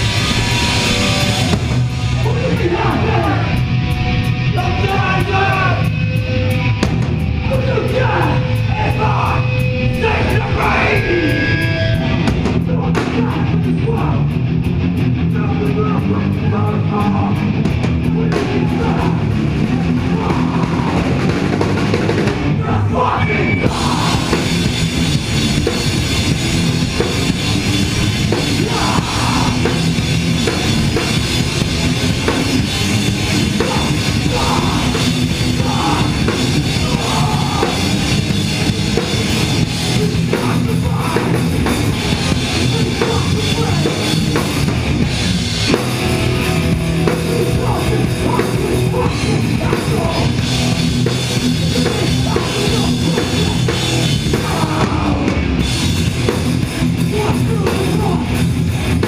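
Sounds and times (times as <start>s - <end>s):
electric guitars: 0.0s - 59.0s
pounding drum kit: 0.0s - 59.0s.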